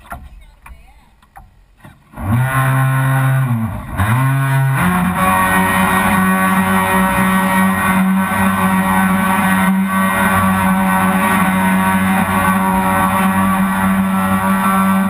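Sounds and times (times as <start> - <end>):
model boat motor droning: 2.1 - 15.0.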